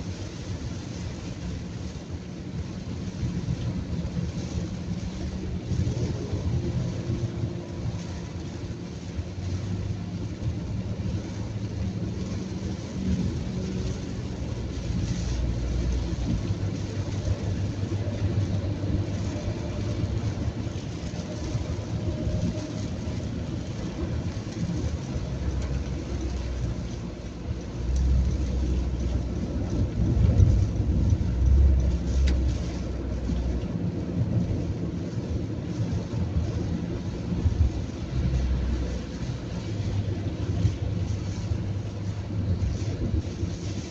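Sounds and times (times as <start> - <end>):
rain and wet tyres hissing: 0.0 - 43.9
road and engine rumble: 0.0 - 43.9.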